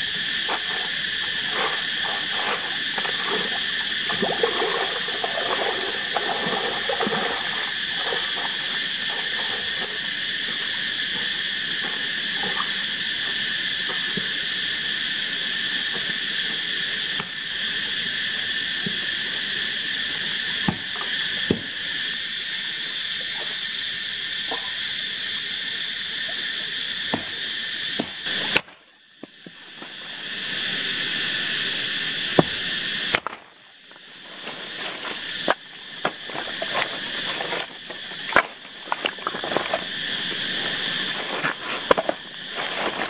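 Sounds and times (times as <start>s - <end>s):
high insect chorus buzzing: 0.0s - 43.0s.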